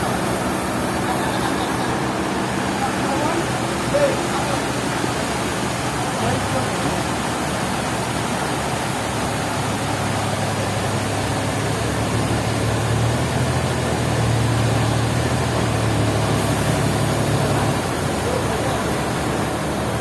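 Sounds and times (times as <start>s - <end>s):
continuous rushing noise: 0.0s - 20.0s
low engine hum: 0.0s - 20.0s.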